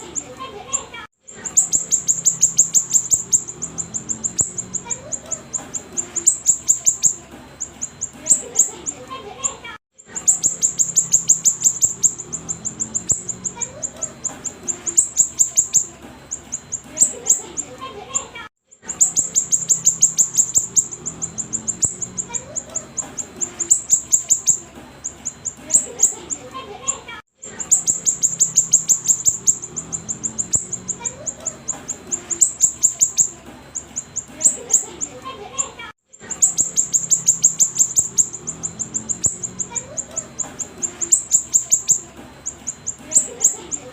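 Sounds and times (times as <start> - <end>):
songbird singing fast high notes: 1.4 - 8.8, 10.1 - 17.7, 18.8 - 26.4, 27.5 - 35.2, 36.2 - 43.9.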